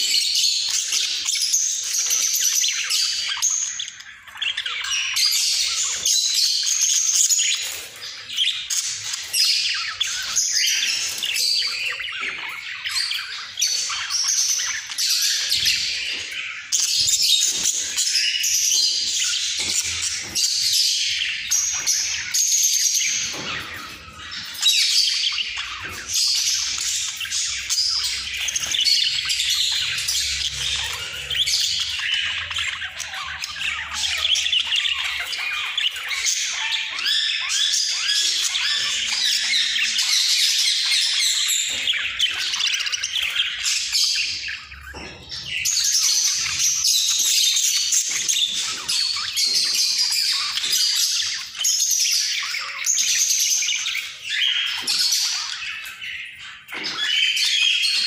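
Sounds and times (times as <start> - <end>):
budgerigars warbling and chattering: 0.0 - 58.0.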